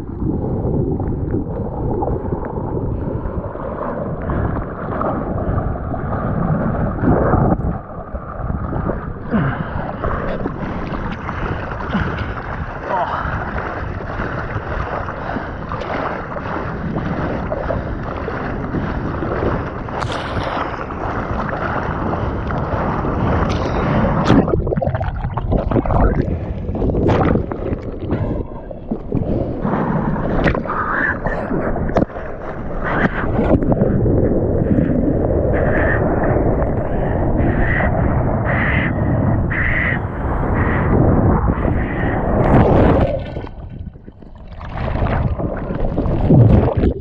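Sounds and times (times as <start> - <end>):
sea water rushing and splashing: 0.0 - 47.0
wind on microphone: 0.0 - 47.0.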